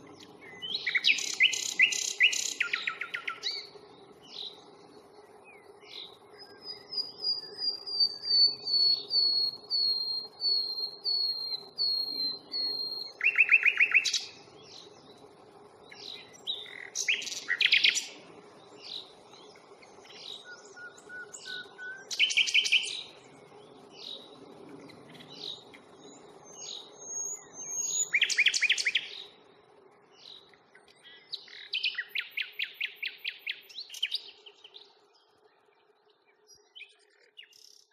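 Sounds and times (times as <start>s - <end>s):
nightingale singing: 0.0s - 29.5s, 30.1s - 37.9s.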